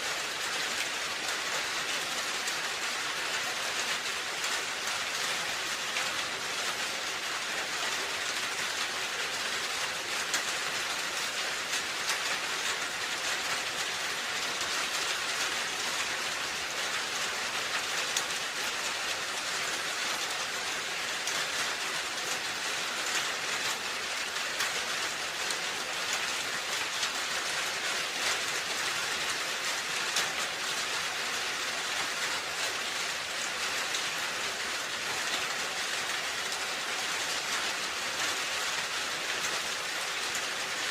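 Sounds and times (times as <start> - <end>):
rain falling on a roof: 0.0 - 40.9.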